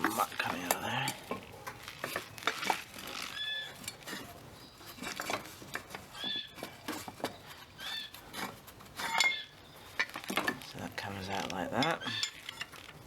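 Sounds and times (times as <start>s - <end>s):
metal scraping and clinking: 0.0s - 13.0s.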